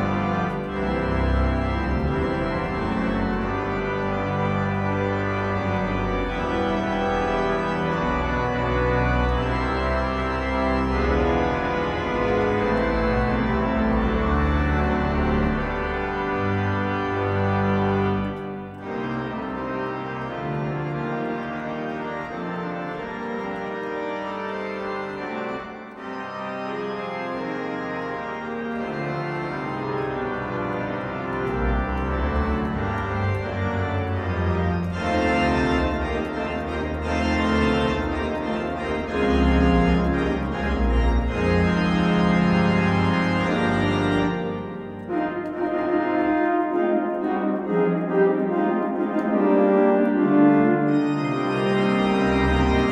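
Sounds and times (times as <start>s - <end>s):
deep organ bass: 0.0s - 46.8s
organ playing hymn-style chords: 0.0s - 52.9s.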